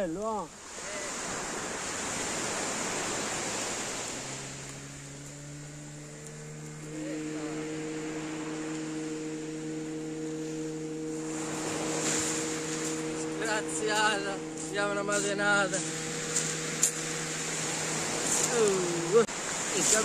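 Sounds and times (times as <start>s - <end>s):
low hum of held tones: 0.0s - 20.0s
waves washing on shingle: 0.0s - 20.0s.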